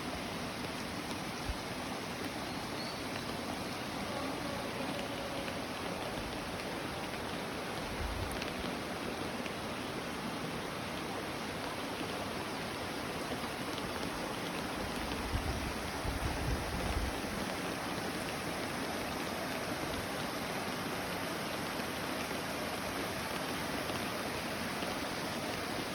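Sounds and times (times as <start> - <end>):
rain hissing: 0.0 - 25.9
stream rushing water: 0.0 - 25.9.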